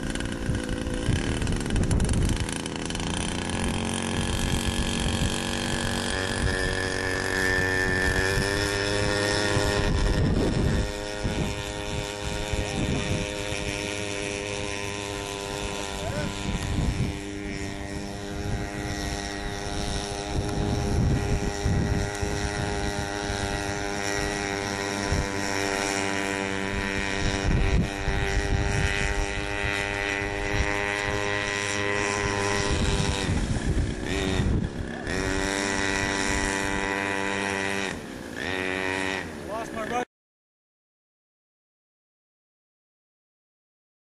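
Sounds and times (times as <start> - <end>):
wind rumble on microphone: 0.0 - 38.0
small engine at high revs: 0.0 - 40.1.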